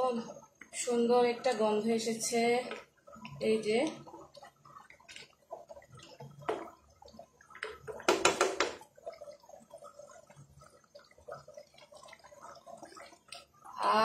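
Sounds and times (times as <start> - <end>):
stew bubbling in a pan: 0.0 - 14.0.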